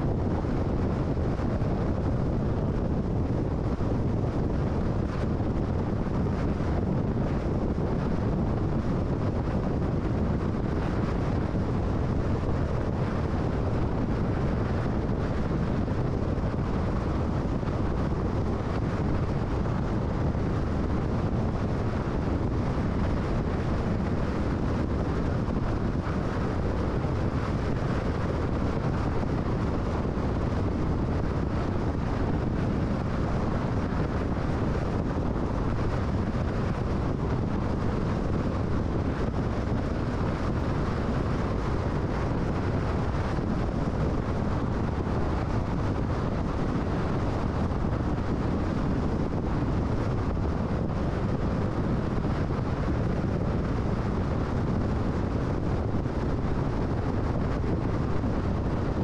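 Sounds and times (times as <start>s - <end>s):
car tyre and wind noise: 0.0s - 59.0s.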